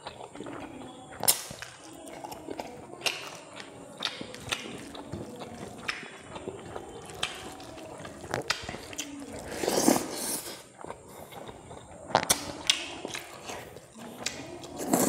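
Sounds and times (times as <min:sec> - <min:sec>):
chewing with wet mouth clicks: 0:00.0 - 0:15.0
wet finger squelches mixing rice: 0:00.0 - 0:15.0.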